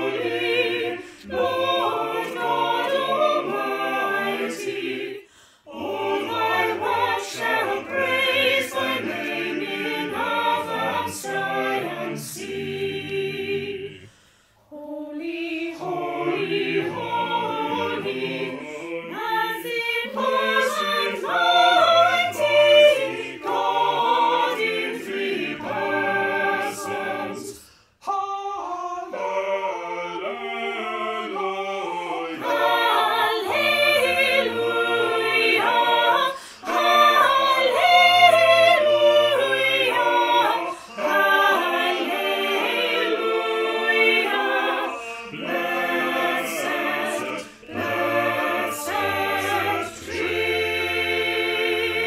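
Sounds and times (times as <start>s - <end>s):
choir singing a cappella: 0.0s - 52.0s.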